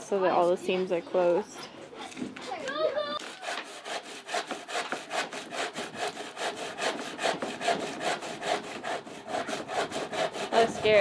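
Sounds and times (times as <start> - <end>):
hand saw cutting wood: 1.1 - 11.0.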